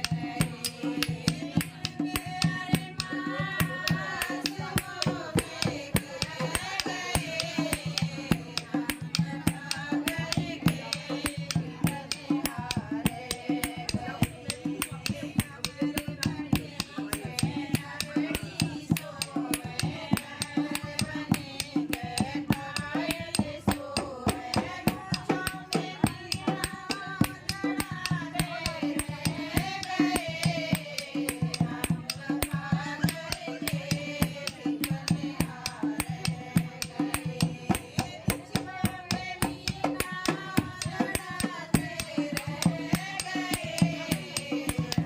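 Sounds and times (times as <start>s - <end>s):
fast steady percussion: 0.0s - 45.0s
person singing: 0.0s - 45.0s.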